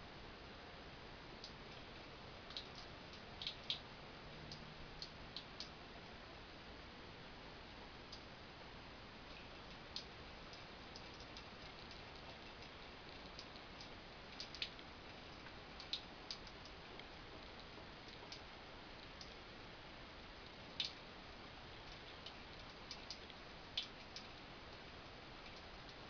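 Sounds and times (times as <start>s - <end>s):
faint steady hiss: 0.0s - 26.0s
water dripping: 1.4s - 5.8s, 9.2s - 26.0s.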